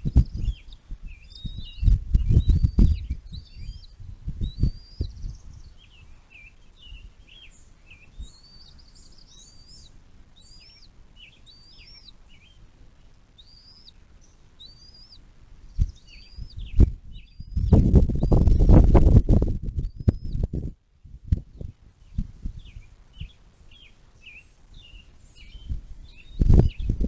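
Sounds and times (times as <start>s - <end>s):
bird chirping: 0.0s - 19.0s, 19.7s - 27.0s.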